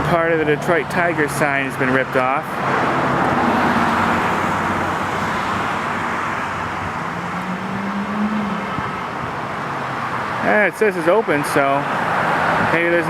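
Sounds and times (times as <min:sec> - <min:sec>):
engine hum: 0:00.0 - 0:13.0
vehicle tyre and engine noise: 0:00.0 - 0:13.0.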